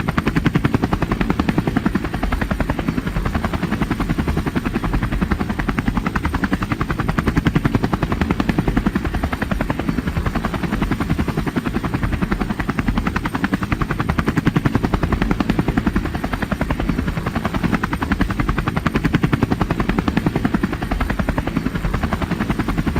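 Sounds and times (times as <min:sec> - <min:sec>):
helicopter rotor beating: 0:00.0 - 0:22.9.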